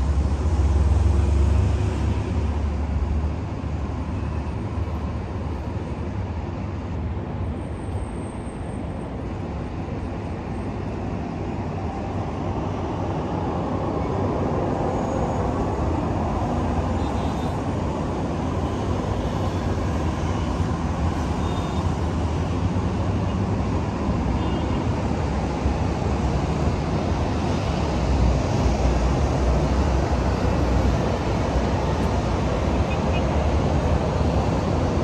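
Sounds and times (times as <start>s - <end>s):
cars passing: 0.0s - 5.8s, 9.7s - 35.0s
bus passing: 0.0s - 35.0s.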